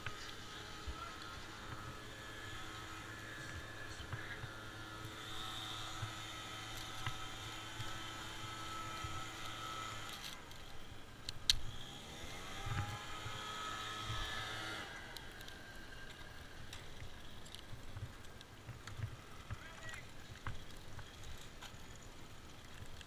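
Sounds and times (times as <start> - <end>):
engine running: 0.0 - 19.7.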